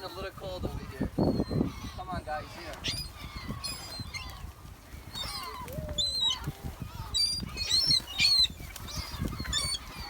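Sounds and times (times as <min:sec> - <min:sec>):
birds squawking: 0:00.0 - 0:10.0.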